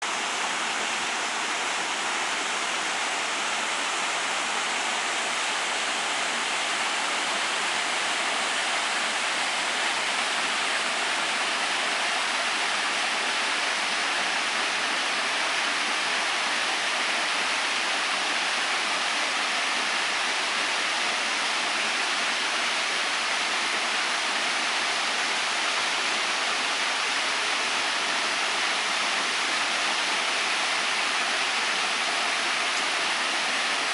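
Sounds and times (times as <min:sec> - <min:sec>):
waterfall pouring: 0:00.1 - 0:33.9.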